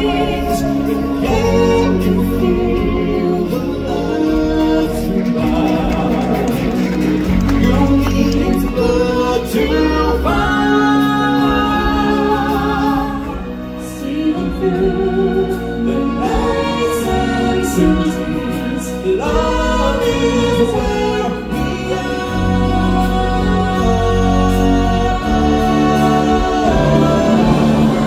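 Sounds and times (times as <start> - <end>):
choir singing long held notes: 0.0 - 7.8, 9.0 - 28.0
stage-show music: 0.0 - 28.0.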